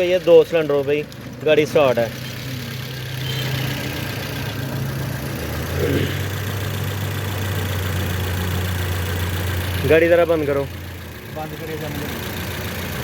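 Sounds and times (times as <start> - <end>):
engine idling roughly misfiring: 0.0 - 13.0.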